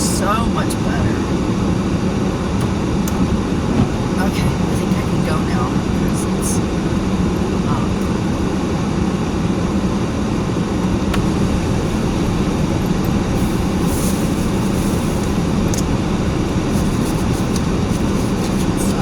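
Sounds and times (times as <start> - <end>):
rushing noise in car cabin: 0.0 - 19.0.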